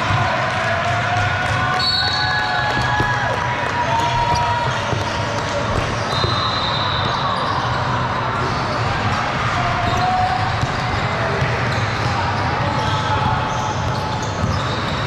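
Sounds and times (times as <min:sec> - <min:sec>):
crowd voices in large hall: 0:00.0 - 0:15.0.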